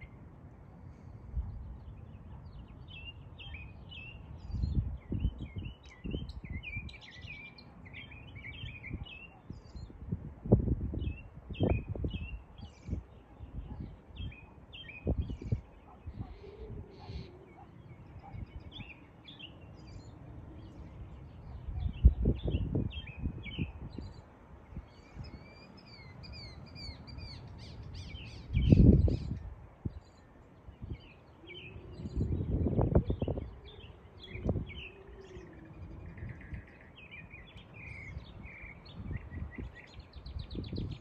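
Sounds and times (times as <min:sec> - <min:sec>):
songbirds chirping and singing: 0:00.0 - 0:41.0
wind rumbling on microphone: 0:00.0 - 0:41.0.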